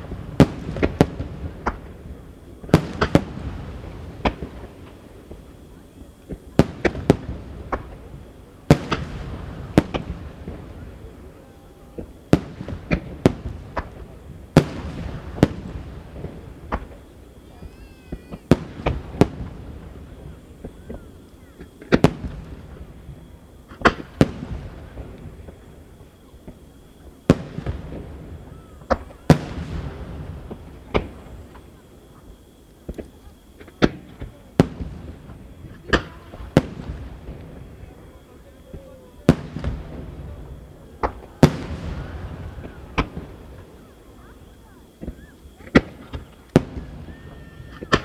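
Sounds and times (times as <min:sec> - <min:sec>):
firework shells bursting: 0:00.0 - 0:48.0.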